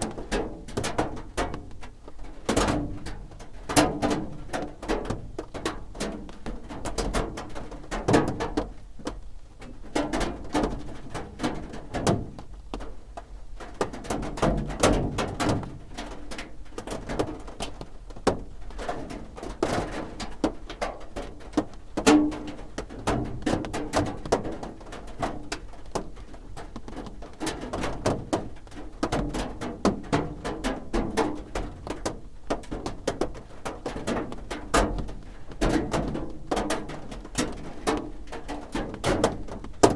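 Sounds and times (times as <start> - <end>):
rain drumming on a roof: 0.0 - 39.9.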